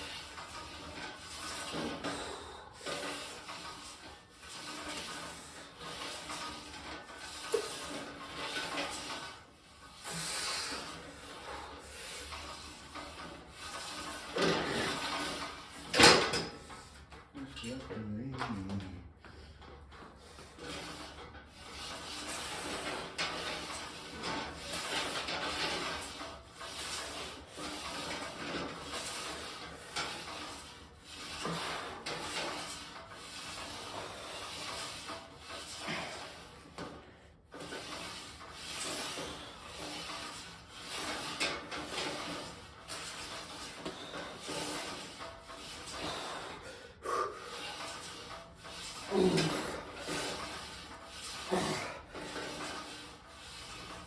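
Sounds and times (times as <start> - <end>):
rubbing and rustling noise: 0.0 - 54.0.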